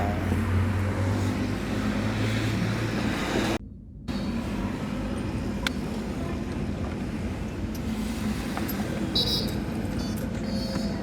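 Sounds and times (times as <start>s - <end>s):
steady vehicle noise: 0.0s - 11.0s.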